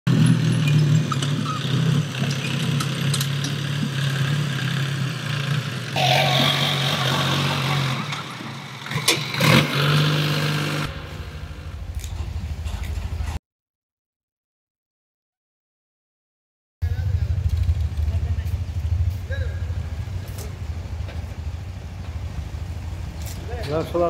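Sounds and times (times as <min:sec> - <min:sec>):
tractor diesel engine running: 0:00.1 - 0:13.4, 0:16.8 - 0:24.0.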